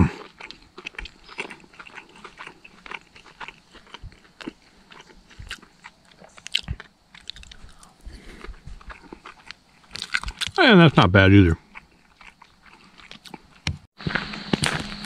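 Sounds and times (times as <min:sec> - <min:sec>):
person chewing crunchy food: 0:00.0 - 0:10.6, 0:11.6 - 0:15.0.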